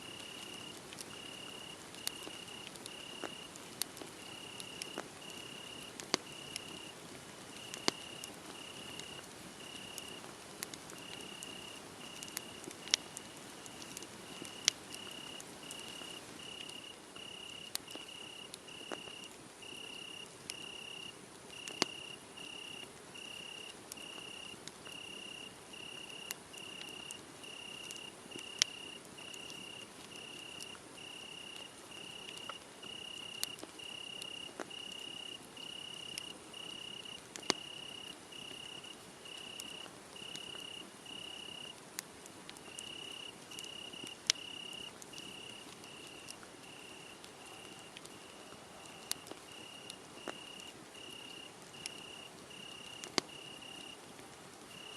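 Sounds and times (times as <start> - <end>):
cricket chirping: 0.0 - 3.6, 4.2 - 10.3, 10.9 - 41.8, 42.6 - 48.4, 49.0 - 54.0
wood fire crackling and popping: 0.0 - 54.9.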